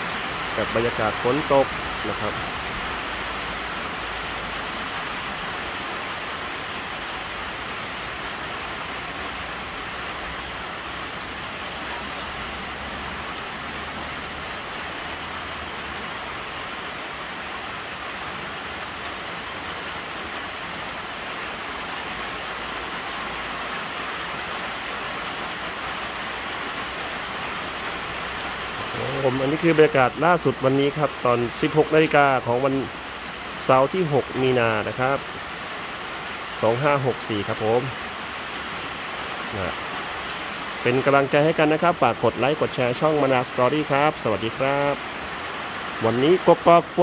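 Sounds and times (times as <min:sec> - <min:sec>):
rain falling steadily: 0:00.0 - 0:47.0.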